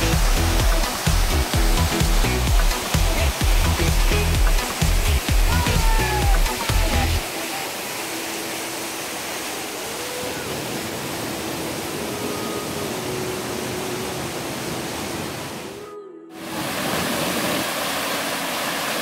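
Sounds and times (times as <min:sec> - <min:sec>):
rushing mountain stream: 0:00.0 - 0:15.8, 0:16.4 - 0:19.0.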